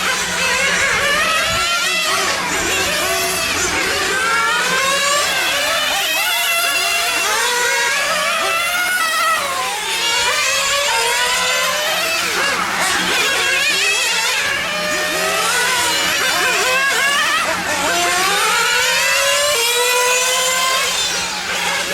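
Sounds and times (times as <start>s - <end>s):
radio-controlled car engines whining: 0.0s - 21.9s.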